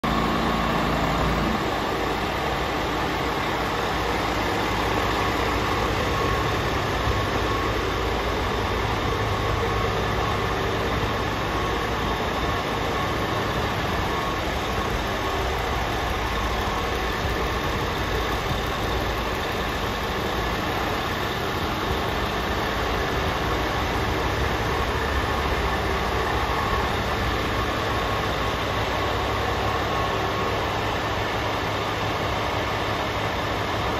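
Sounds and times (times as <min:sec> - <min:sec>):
diesel truck engine idling: 0:00.0 - 0:33.9
thin steady whine: 0:00.0 - 0:33.9.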